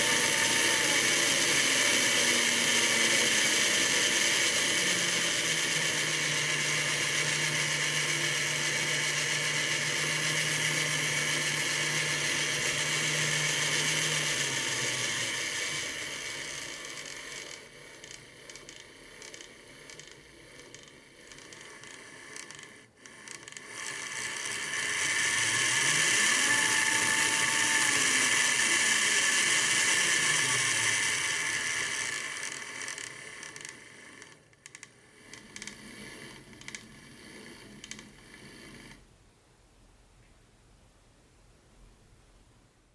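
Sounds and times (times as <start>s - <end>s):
model train motor whirring: 0.0s - 39.1s.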